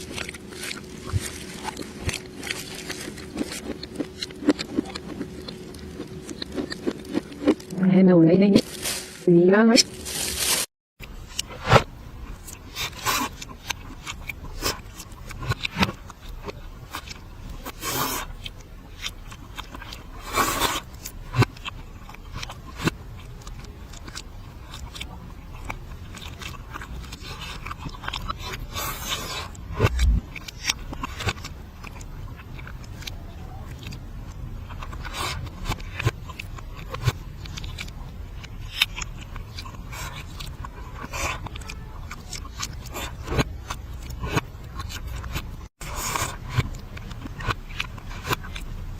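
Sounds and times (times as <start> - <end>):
reversed chewing and crunching: 0.0 - 7.8, 9.8 - 48.9.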